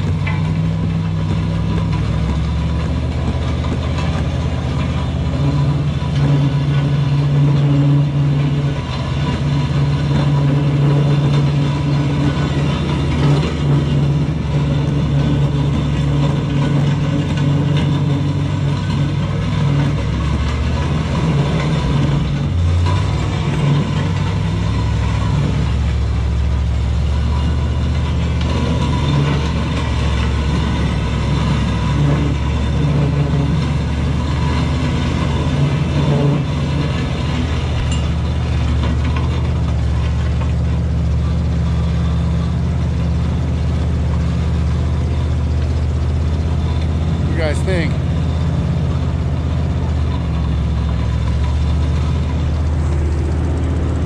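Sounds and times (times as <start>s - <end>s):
road and dragging noise: 0.0s - 54.0s
truck engine under load: 0.0s - 54.0s.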